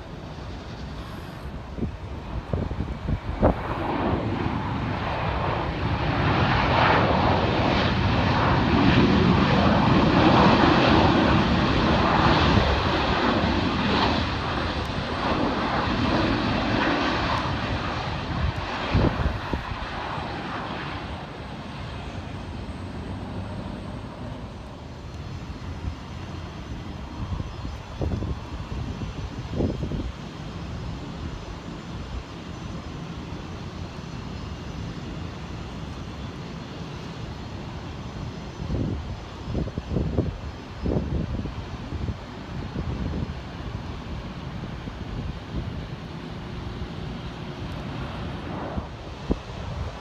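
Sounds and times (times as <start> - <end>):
jet engines droning: 0.0 - 50.0.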